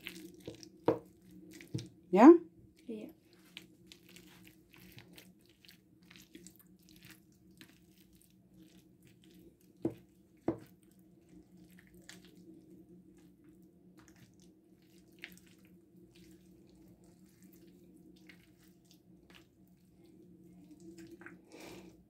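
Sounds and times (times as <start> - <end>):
utensil squelching through salad: 0.0 - 2.0, 2.7 - 21.9.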